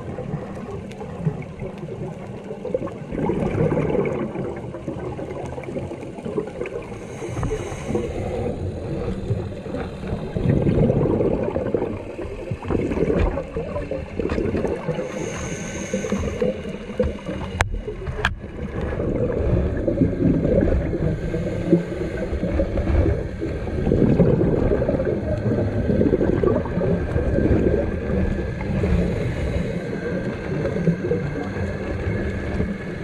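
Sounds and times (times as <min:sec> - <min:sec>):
muffled underwater rumble: 0:00.0 - 0:33.0
water gurgling: 0:00.0 - 0:33.0.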